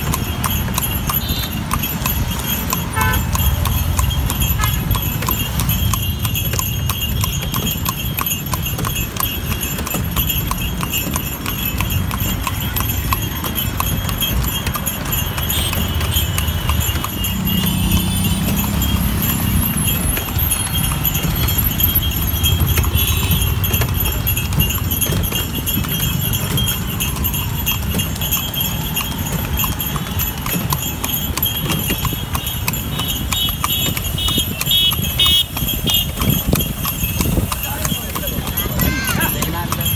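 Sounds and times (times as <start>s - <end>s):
horse hooves clip-clopping on asphalt: 0.0s - 39.9s
street traffic: 0.0s - 39.9s.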